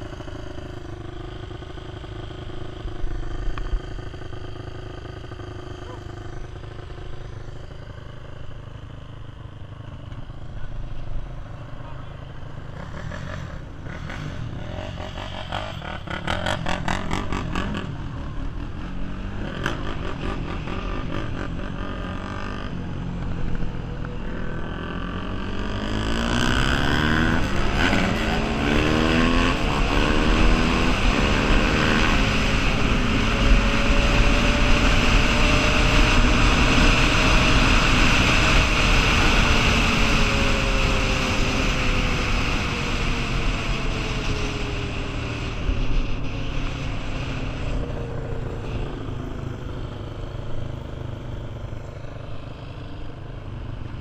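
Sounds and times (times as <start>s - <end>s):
atv engine accelerating: 0.0s - 54.0s.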